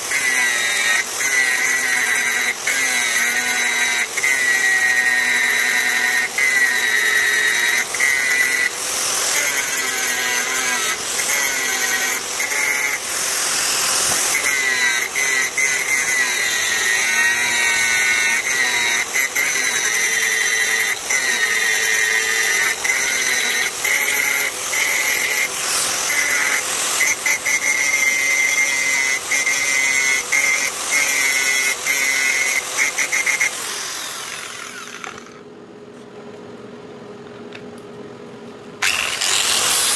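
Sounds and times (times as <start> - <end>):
angle grinder grinding metal: 0.0 - 35.4, 38.8 - 39.9.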